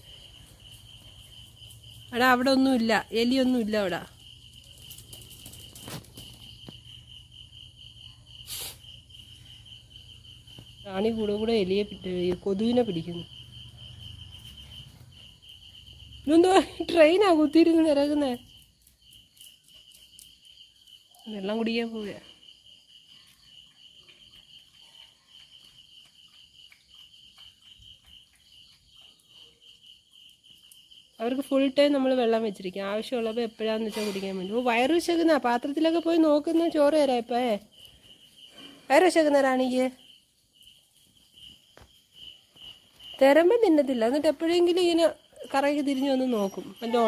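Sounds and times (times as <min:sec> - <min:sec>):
cricket trilling: 0:00.0 - 0:47.0.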